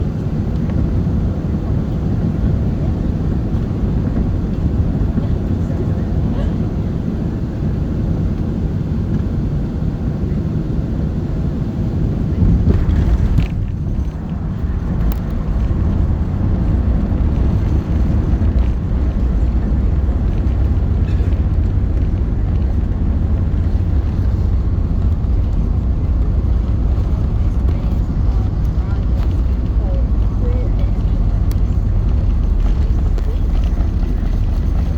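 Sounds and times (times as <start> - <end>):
jet engines rumbling: 0.0 - 34.9
wind noise on microphone: 0.0 - 34.9.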